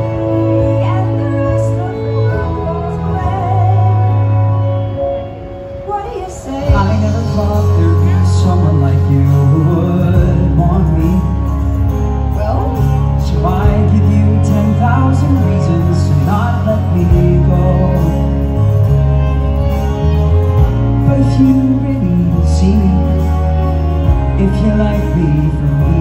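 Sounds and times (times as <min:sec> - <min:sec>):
person singing: 0:00.0 - 0:26.0
show tune accompaniment: 0:00.0 - 0:26.0.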